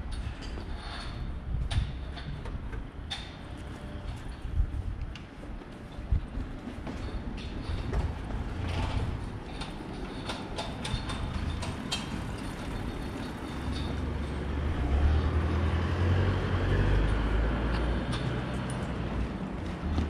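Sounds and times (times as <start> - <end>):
city street noise: 0.0 - 20.0
train rumbling past: 2.8 - 20.0.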